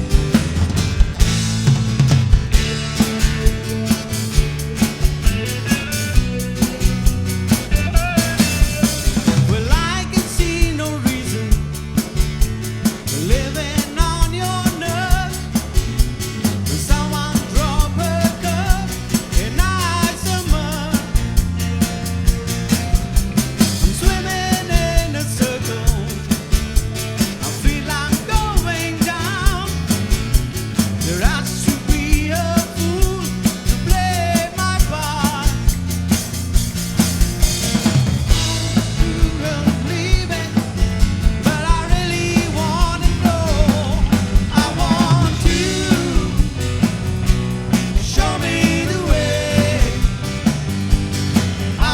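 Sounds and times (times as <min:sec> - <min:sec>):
bass guitar: 0:00.0 - 0:51.9
drum kit beat: 0:00.0 - 0:51.9.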